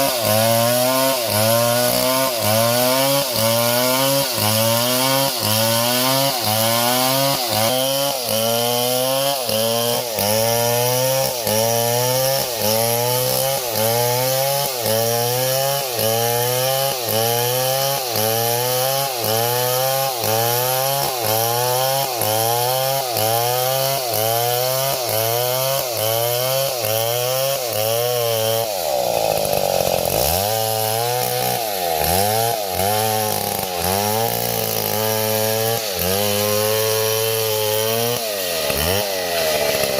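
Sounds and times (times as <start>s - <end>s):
chainsaw running under load: 0.0s - 39.9s.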